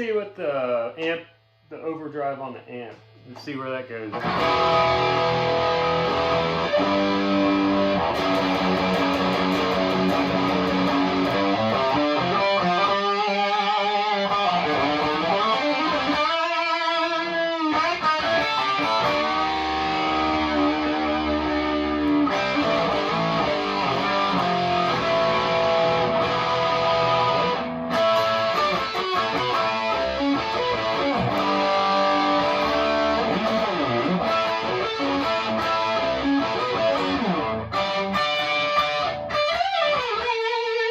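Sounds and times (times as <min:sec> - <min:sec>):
overdriven electric guitar: 0:02.9 - 0:40.9.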